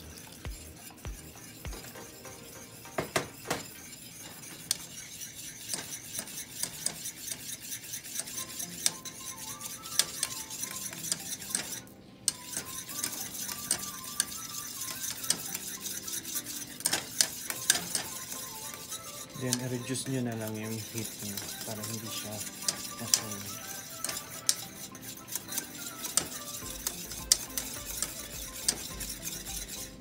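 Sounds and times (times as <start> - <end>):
whisk clicking against a metal pan: 0.0 - 30.0.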